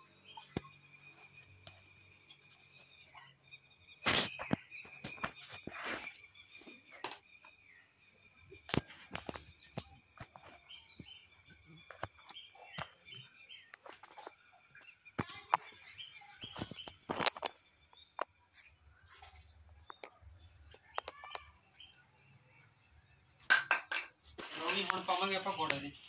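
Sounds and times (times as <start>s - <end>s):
birds chirping: 0.0s - 23.8s, 24.5s - 26.0s.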